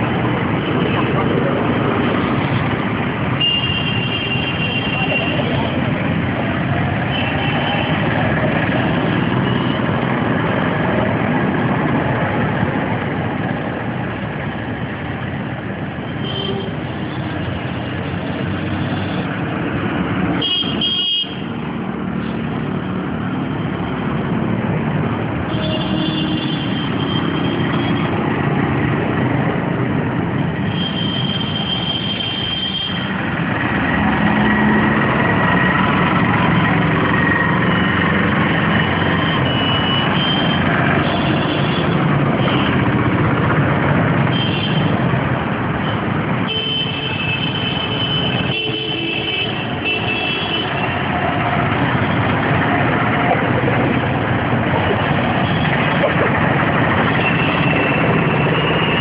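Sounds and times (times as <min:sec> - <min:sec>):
vehicle engines din: 0:00.0 - 0:59.0.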